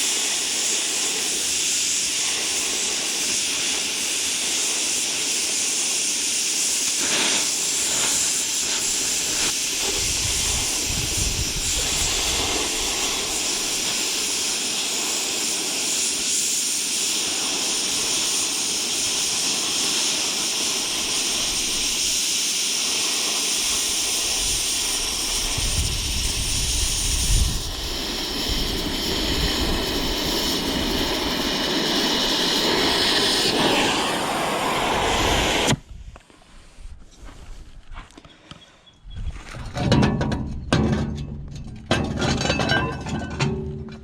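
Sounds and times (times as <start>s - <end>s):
welding arc burning: 0.0s - 35.8s.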